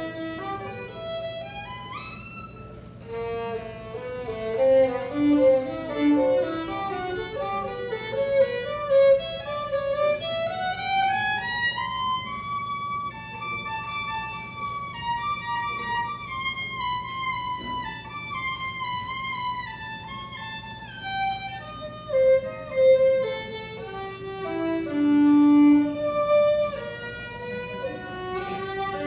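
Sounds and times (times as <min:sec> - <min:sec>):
solo violin melody: 0:00.0 - 0:29.0.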